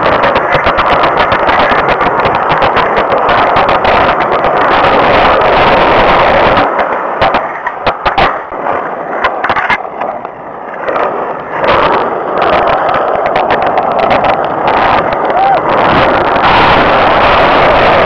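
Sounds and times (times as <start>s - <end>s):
skateboard clacking on ground: 0.0s - 18.0s
skateboard wheels rolling on concrete: 0.0s - 18.0s.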